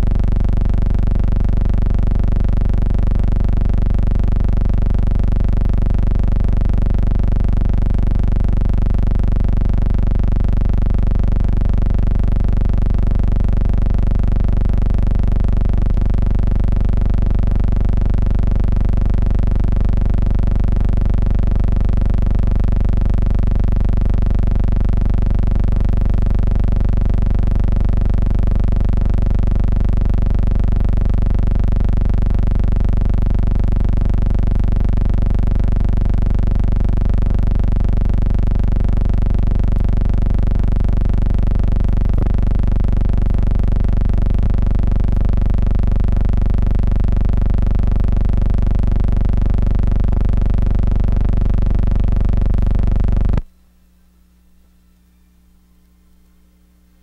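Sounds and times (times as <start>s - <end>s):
loud electrical hum: 0.0s - 57.0s.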